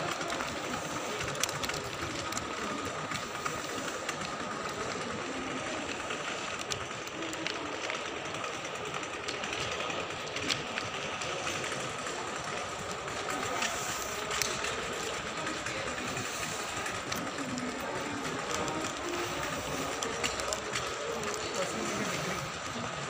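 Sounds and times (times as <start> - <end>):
shopping mall background noise: 0.0 - 23.0.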